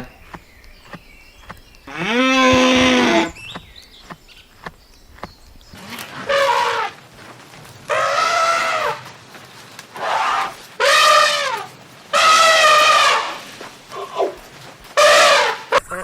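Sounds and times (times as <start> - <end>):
animal calling: 0.0 - 16.0.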